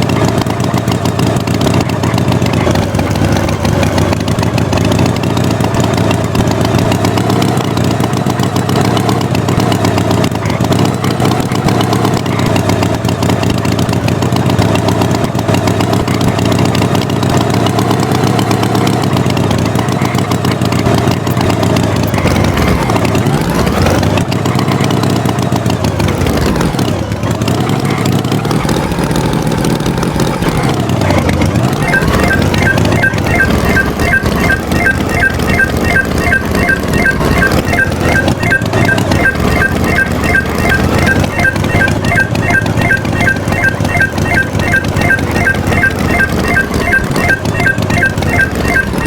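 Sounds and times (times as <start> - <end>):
tractor engine revving: 0.0 - 49.0.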